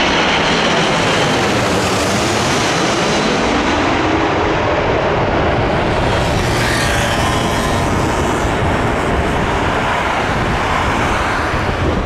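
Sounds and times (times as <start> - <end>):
jet plane passing overhead: 0.0 - 12.0.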